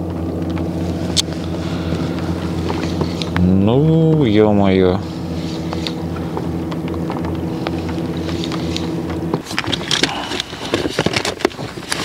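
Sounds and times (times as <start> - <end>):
outboard motor running: 0.0 - 12.0
rustling: 0.4 - 12.0.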